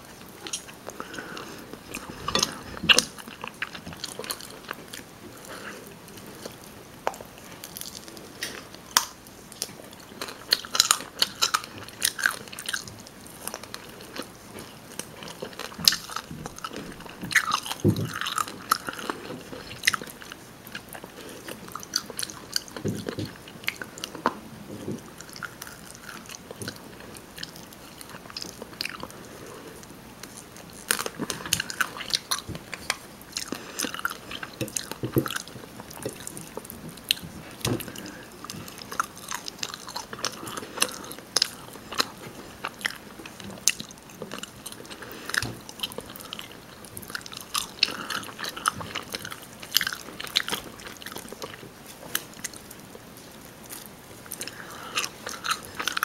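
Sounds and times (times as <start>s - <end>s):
person chewing: 0.0s - 56.0s.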